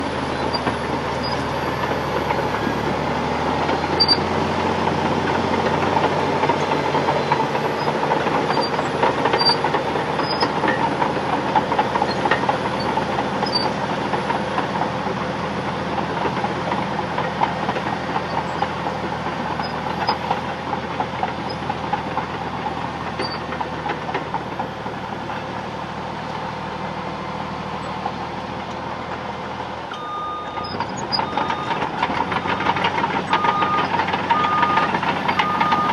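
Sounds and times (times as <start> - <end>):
bulldozer tracks clanking: 0.0 - 35.9
diesel engine running: 0.0 - 35.9.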